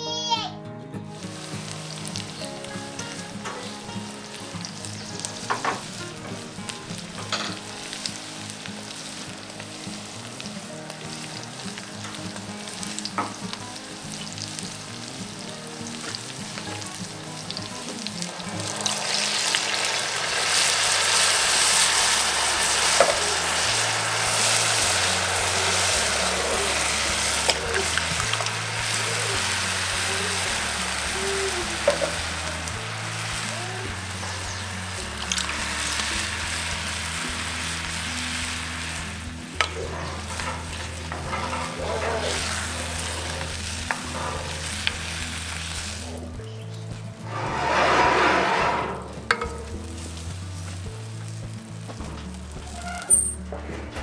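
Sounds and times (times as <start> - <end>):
food sizzling in oil: 1.2 - 53.5
pot bubbling: 1.2 - 54.0.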